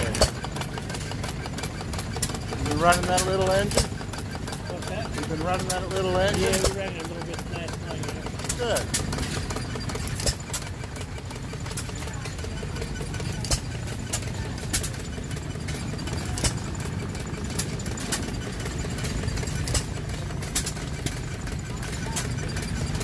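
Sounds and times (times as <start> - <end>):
stationary engine running: 0.0 - 23.0.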